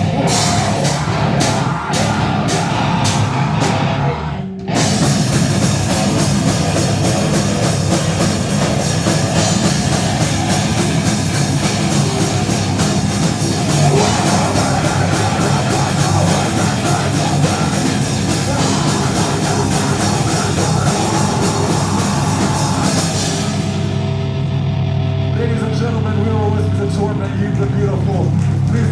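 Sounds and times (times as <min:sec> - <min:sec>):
heavy metal band playing: 0:00.0 - 0:28.9.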